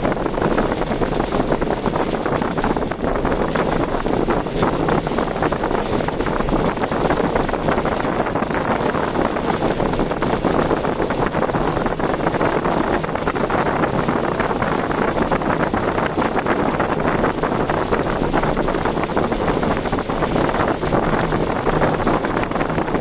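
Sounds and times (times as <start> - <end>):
strong wind: 0.0 - 23.0.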